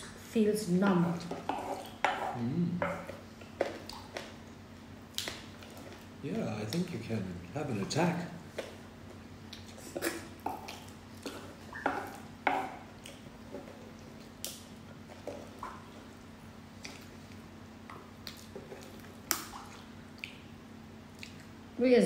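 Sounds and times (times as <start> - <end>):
faint steady hum: 0.0 - 22.0
wet chewing sounds: 1.2 - 7.0, 8.5 - 21.6.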